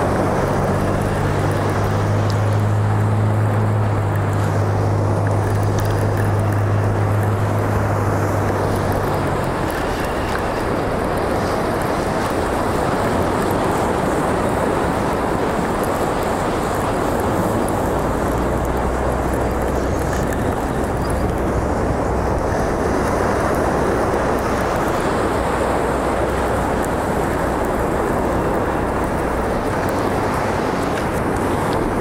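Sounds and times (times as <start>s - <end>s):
wind: 0.0s - 32.0s
wind rumble on microphone: 0.0s - 32.0s.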